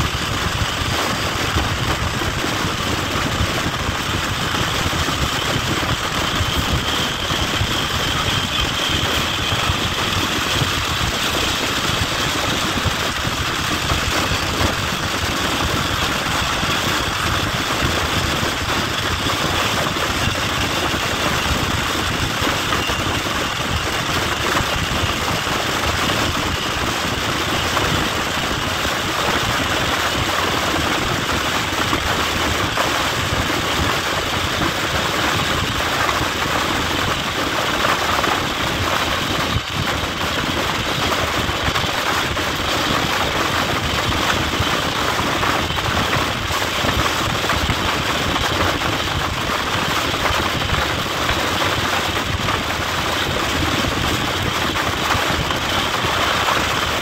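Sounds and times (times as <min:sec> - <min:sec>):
train wheels on rails: 0:00.0 - 0:57.0
wind on microphone: 0:00.0 - 0:57.0.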